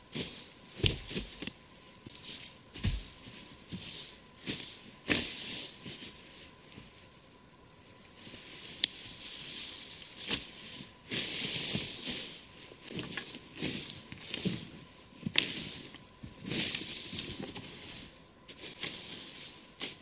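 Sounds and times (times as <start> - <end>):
footsteps crunching dry leaves: 0.0 - 7.0, 8.2 - 20.0.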